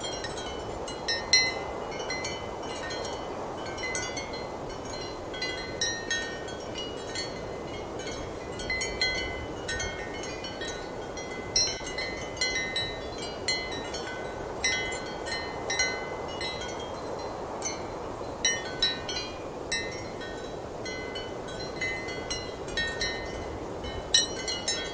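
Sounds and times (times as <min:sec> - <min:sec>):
ceramic wind chimes clinking: 0:00.0 - 0:17.9, 0:18.5 - 0:24.9.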